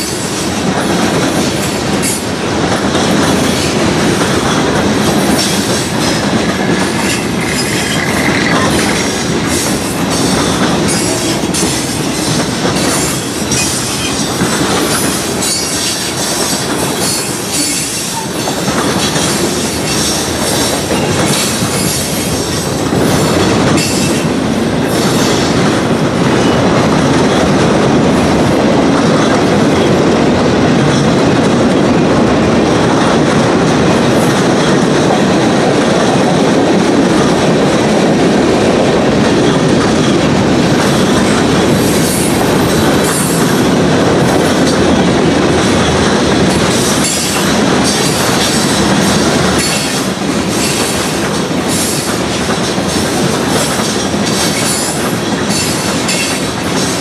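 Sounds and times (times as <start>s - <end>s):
steel wheels rumbling on rail: 0.0s - 57.0s
wheels clacking over rail joints: 0.0s - 57.0s.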